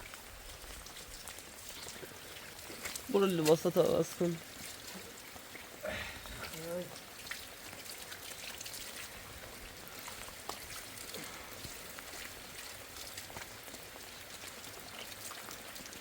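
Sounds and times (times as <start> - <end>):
steady rain: 0.0 - 16.0
drips and taps: 0.6 - 16.0.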